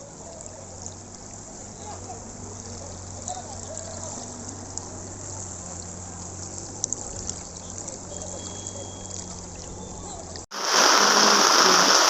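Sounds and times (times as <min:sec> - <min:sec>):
floodwater flowing: 0:00.0 - 0:12.0.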